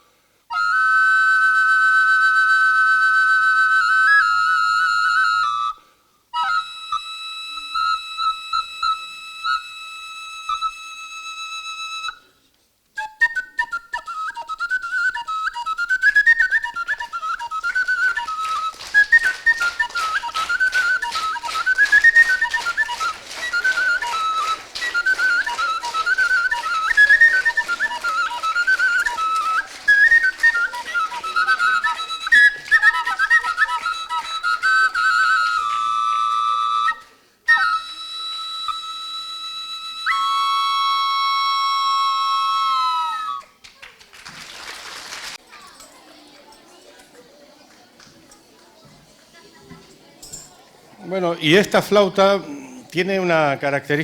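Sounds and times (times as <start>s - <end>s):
double flute melody: 0.0s - 43.6s.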